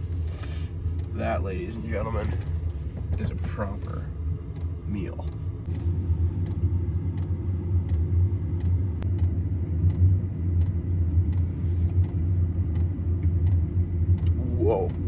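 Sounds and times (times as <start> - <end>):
heater combustion fan rumble: 0.0 - 15.0
fuel pump ticking: 0.4 - 15.0.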